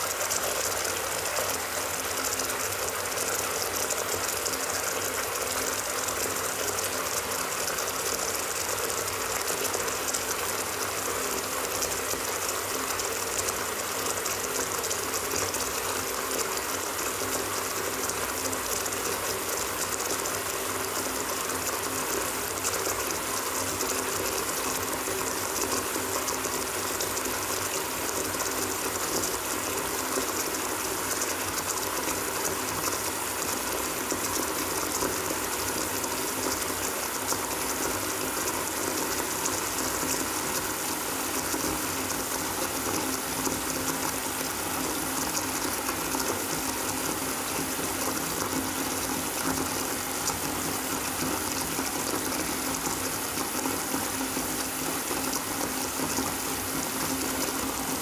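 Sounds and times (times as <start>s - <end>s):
tap water filling bathtub: 0.0s - 58.0s.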